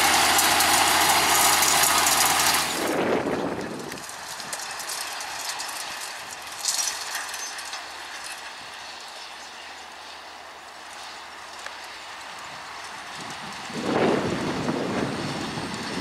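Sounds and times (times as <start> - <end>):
faint tractor engine hum: 0.0 - 16.0
hay rake rattling and clattering: 0.0 - 16.0.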